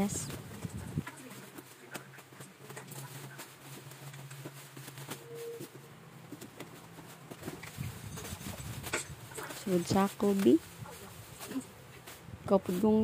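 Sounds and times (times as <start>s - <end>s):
plastic wrapping crinkling: 1.0s - 13.0s.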